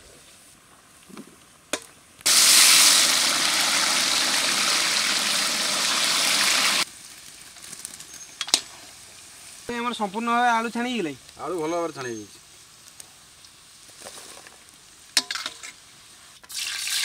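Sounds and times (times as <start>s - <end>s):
potatoes sizzling in hot oil: 2.3s - 17.0s.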